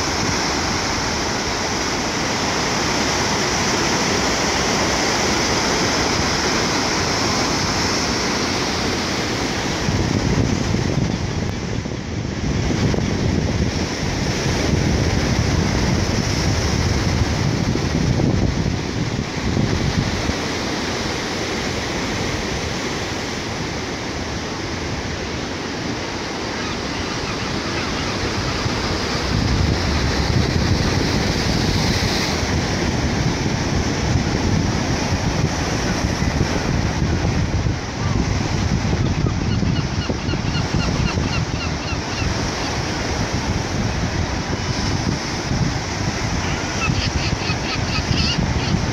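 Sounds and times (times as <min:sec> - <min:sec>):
ocean surf breaking on rocks: 0:00.0 - 0:48.9
wind rumbling on microphone: 0:00.0 - 0:48.9.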